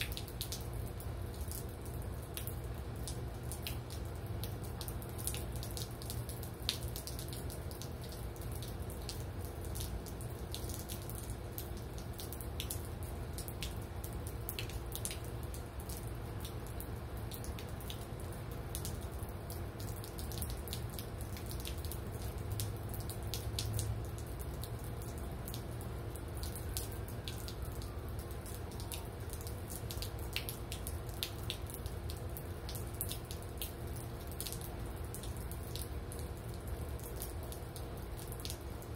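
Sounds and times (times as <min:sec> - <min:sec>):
drops dripping and splattering: 0:00.0 - 0:38.9
rain falling: 0:00.0 - 0:38.9.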